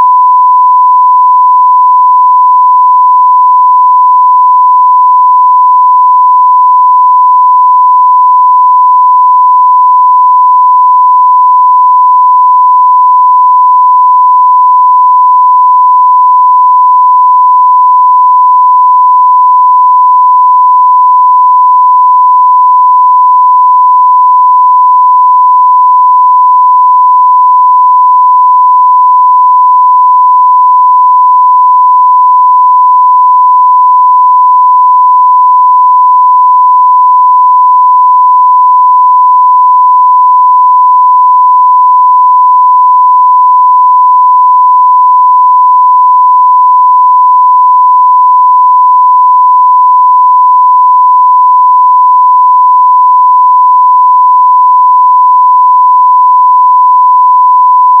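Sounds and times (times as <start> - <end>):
sine-wave test tone: 0.0 - 58.0.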